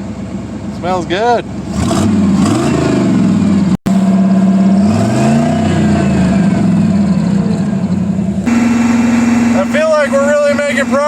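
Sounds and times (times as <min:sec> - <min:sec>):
truck engine running: 0:00.0 - 0:11.0
engine revving: 0:01.6 - 0:11.0.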